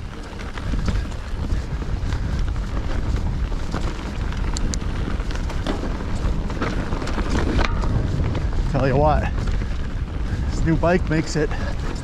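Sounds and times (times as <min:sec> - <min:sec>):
bike rattling on trail: 0:00.0 - 0:12.0
wind rumble on microphone: 0:00.0 - 0:12.0.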